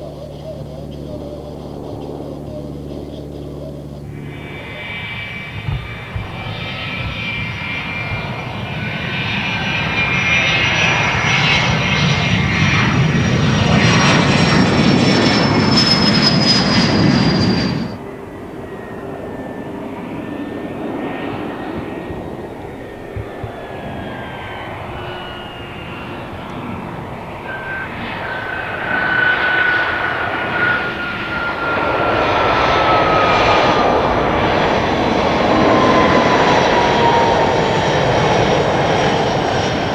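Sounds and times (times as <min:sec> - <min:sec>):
jet engine roaring on runway: 0:00.0 - 0:39.9
jet passing overhead whining: 0:00.0 - 0:39.9.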